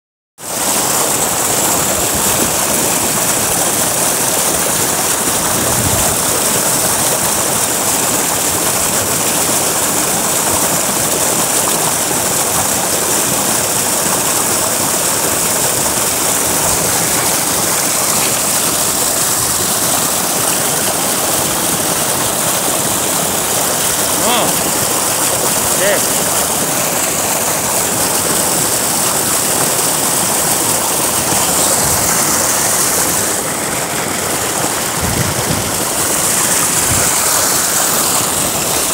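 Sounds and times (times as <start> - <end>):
water gushing into tank: 0.4 - 38.9.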